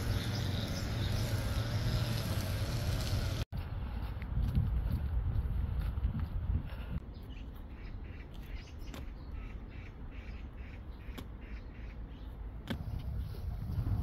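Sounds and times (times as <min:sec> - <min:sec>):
light wind: 0:00.0 - 0:14.0.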